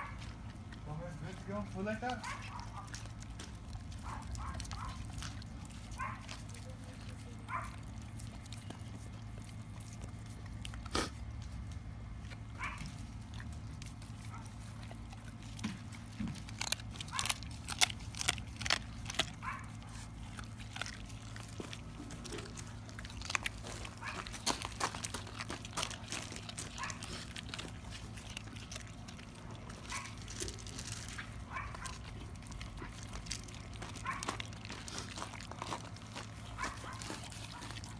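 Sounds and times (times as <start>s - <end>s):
bones crunching: 0.0s - 37.9s
dog gnawing: 0.0s - 37.9s.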